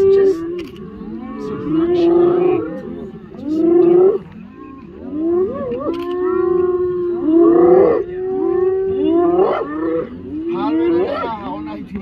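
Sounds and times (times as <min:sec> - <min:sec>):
hyenas calling: 0:00.0 - 0:11.6.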